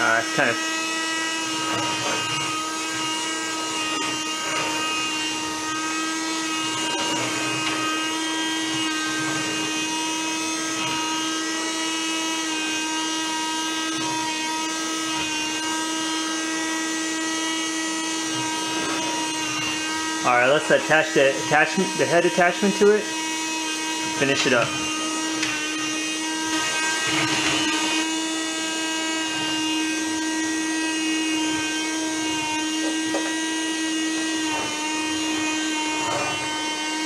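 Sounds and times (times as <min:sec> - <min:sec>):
small vacuum cleaner motor whining: 0:00.0 - 0:37.0.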